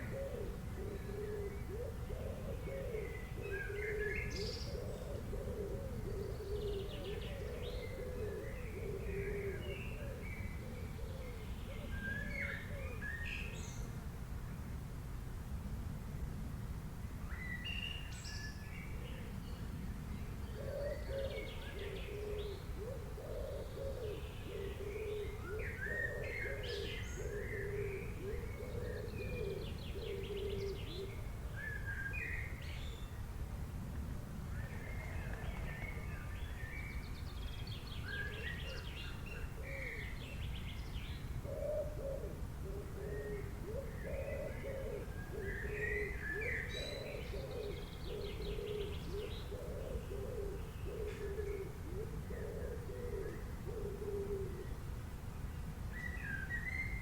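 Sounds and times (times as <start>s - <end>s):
lower cooing calls: 0.0s - 14.0s, 20.3s - 33.2s, 34.5s - 54.8s, 55.9s - 57.0s.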